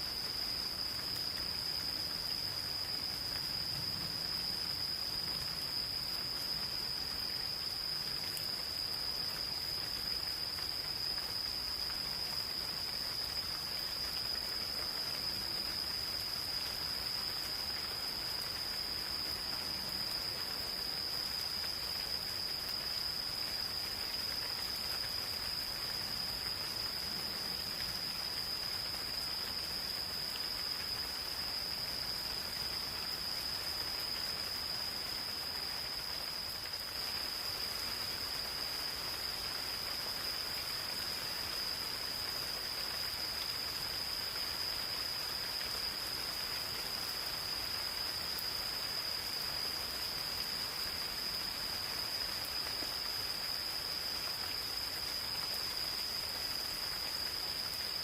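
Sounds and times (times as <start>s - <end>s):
insects trilling: 0.0s - 58.0s
light rain pattering: 0.0s - 58.0s.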